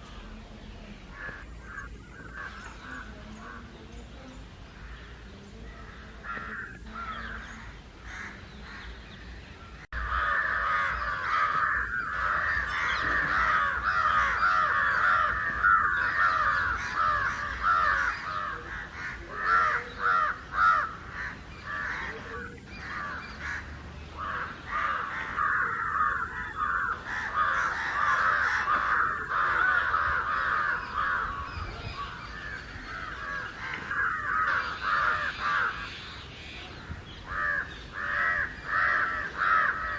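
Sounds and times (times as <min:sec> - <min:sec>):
crows cawing: 0:01.1 - 0:03.7, 0:05.8 - 0:09.0, 0:10.0 - 0:36.2, 0:37.1 - 0:39.9.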